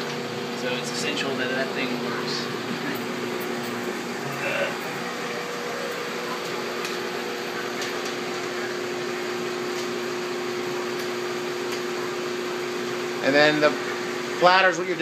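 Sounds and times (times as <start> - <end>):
projector machine hum: 0.0 - 15.0.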